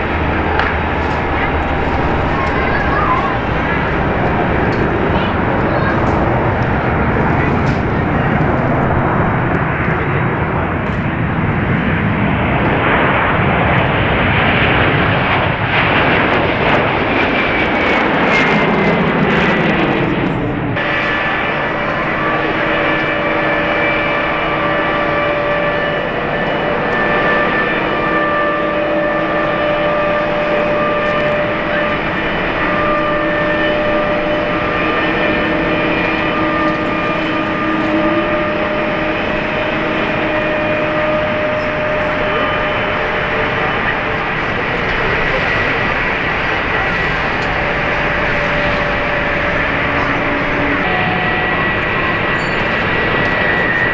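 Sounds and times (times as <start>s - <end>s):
jet engine whine: 0.0s - 53.9s
jet engines roaring: 0.0s - 53.9s.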